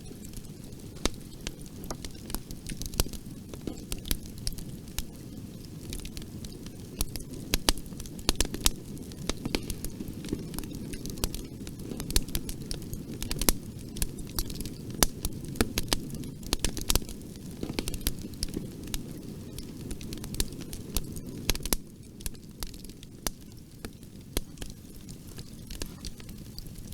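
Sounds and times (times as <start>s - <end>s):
burning wood crackling and popping: 0.0s - 26.9s
low rumble of flames: 0.0s - 26.9s.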